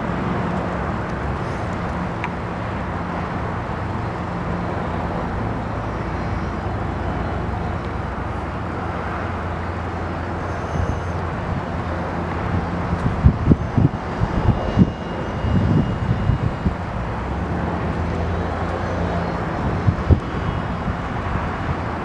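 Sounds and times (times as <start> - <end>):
airship engines humming: 0.0 - 22.0.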